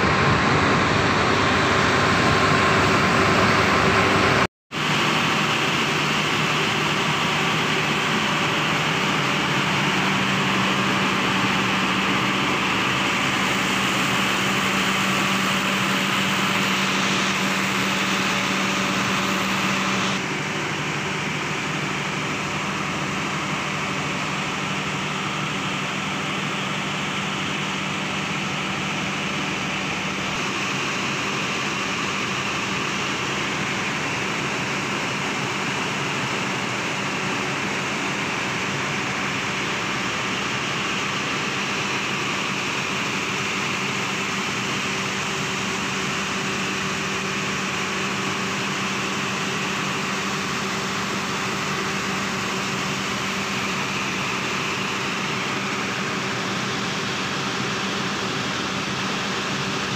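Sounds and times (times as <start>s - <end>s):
diesel generator running: 0.0s - 59.9s.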